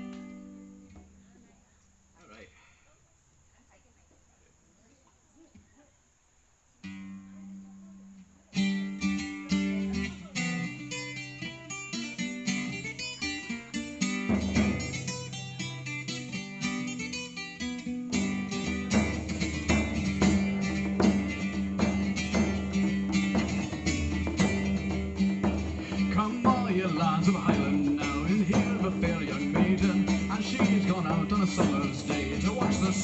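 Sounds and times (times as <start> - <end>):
acoustic guitar picked notes: 0.0 - 1.1, 6.8 - 33.0.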